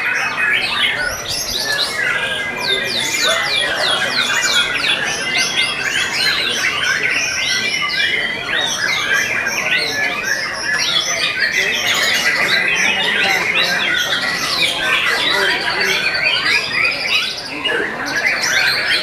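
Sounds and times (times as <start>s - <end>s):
many songbirds singing: 0.0s - 19.0s.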